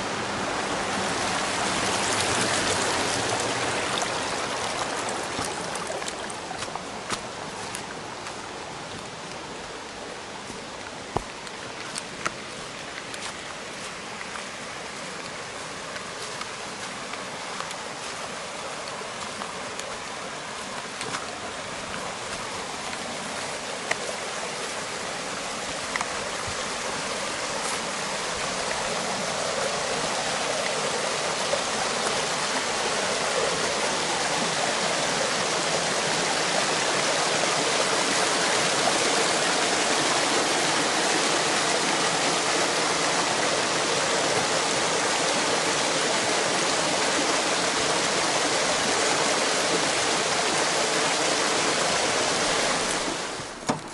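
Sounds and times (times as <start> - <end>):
stream rushing over stones: 0.0 - 53.9.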